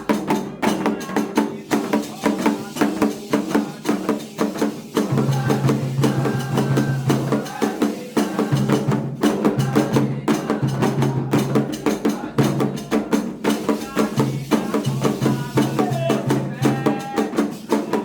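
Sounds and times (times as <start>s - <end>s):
drums with clicky struck pattern: 0.0s - 18.0s.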